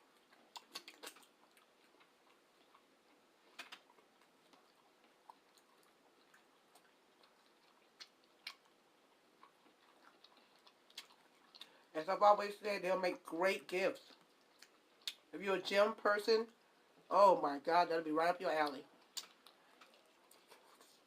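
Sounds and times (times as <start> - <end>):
quiet chewing: 0.0 - 12.0, 13.0 - 17.1, 18.4 - 21.0.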